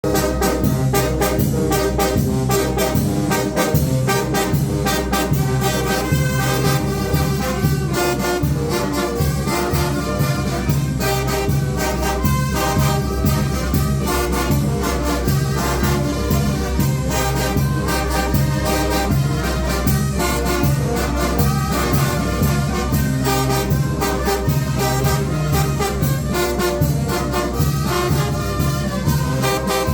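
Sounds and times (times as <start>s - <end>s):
percussion beat: 0.0s - 29.9s
trumpets and trombones: 0.0s - 29.9s.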